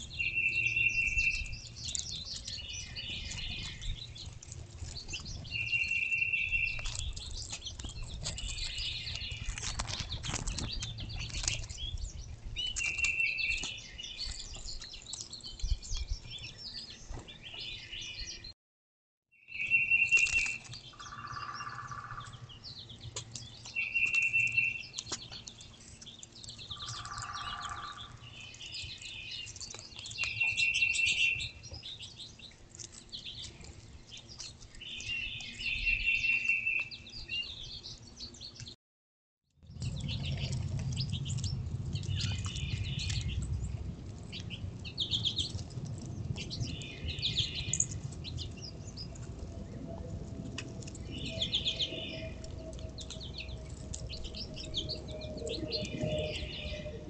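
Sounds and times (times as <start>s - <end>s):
songbirds chirping and singing: 0.0s - 18.6s, 19.4s - 38.8s, 39.6s - 57.0s.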